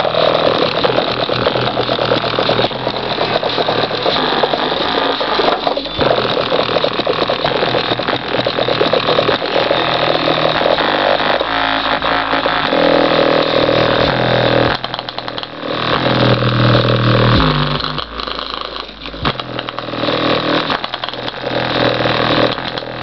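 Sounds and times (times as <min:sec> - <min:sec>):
distorted rattling speaker buzz: 0:00.0 - 0:23.0
steady low hum: 0:00.0 - 0:23.0.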